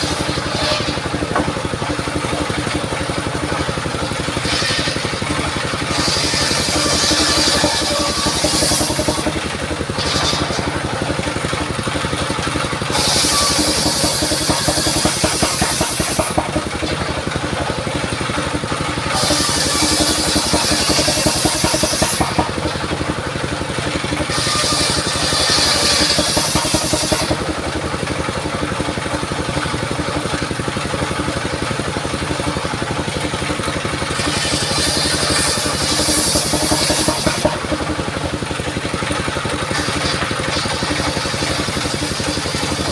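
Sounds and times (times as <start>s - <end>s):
saw blade cutting wood: 0.0s - 42.9s
sawmill engine running: 0.0s - 42.9s.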